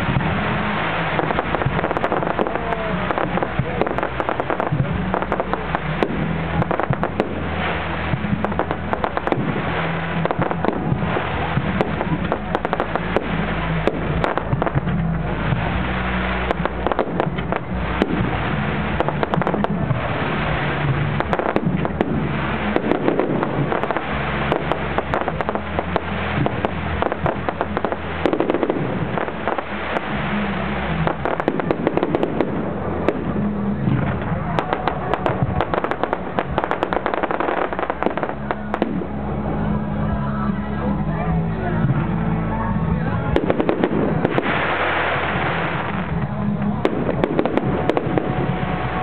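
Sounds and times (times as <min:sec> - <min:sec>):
fireworks bangs and crackling: 0:00.0 - 0:49.0
music with deep bass: 0:00.0 - 0:49.0.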